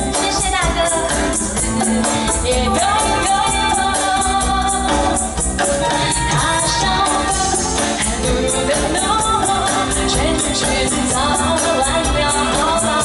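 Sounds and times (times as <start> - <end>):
live band with steady beat: 0.0 - 13.0
woman singing pop song: 0.0 - 13.0.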